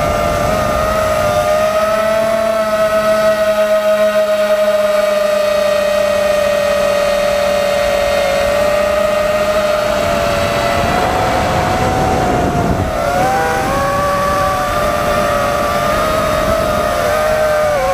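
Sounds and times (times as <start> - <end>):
drone motors whining: 0.0 - 17.9.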